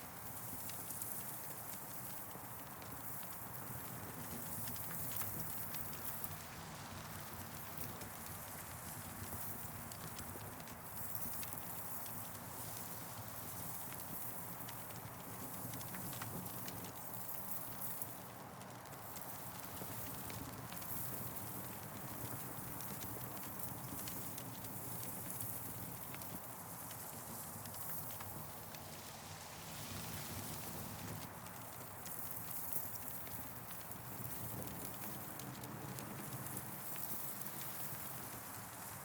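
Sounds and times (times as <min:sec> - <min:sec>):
campfire crackling and popping: 0:00.2 - 0:39.0.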